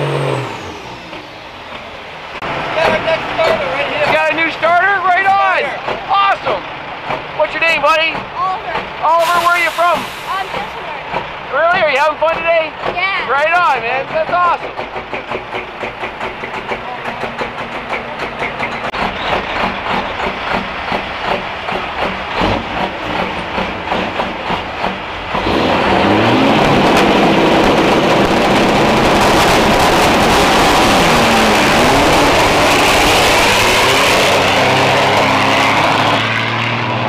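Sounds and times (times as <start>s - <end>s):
truck engines running: 0.0s - 37.0s.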